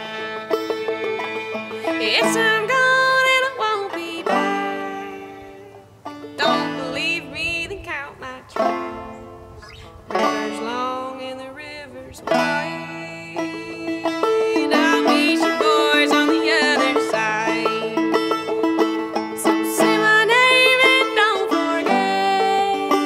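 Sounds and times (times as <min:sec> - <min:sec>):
banjo picking: 0:00.0 - 0:23.0
woman singing: 0:01.0 - 0:09.0, 0:10.3 - 0:18.4, 0:19.3 - 0:23.0.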